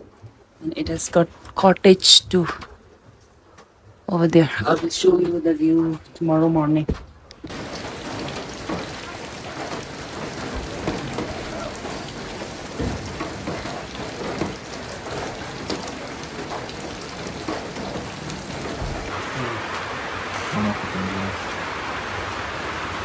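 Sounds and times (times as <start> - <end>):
raindrops clicking close by: 0.0 - 23.0
steady rain falling: 0.0 - 23.0.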